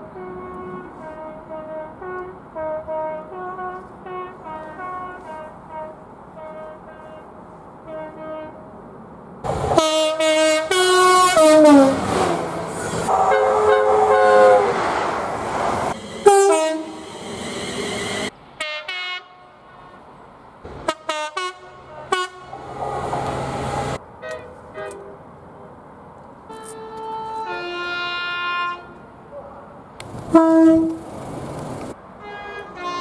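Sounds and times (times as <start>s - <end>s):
train horn blasts: 0.0s - 8.7s, 9.7s - 15.2s, 15.9s - 20.0s, 20.8s - 25.2s, 26.5s - 29.0s, 30.3s - 31.0s, 32.2s - 33.0s
passing trains: 0.0s - 33.0s.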